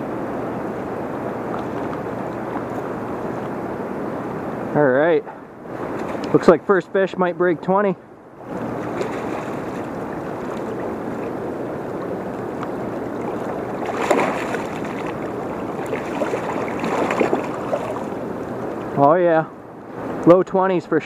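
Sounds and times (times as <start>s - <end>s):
river water rushing: 0.0s - 4.7s, 5.4s - 6.5s, 8.3s - 20.2s.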